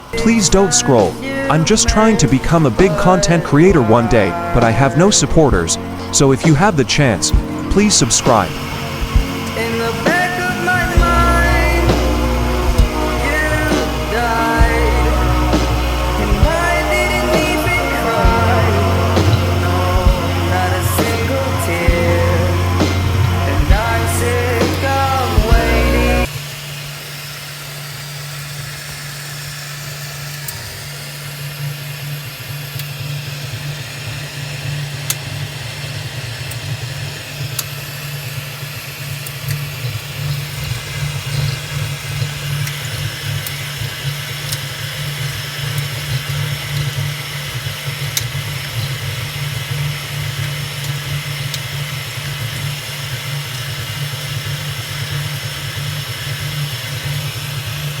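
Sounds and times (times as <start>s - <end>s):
fan hiss: 0.0s - 58.0s
three-d printer humming: 0.0s - 58.0s.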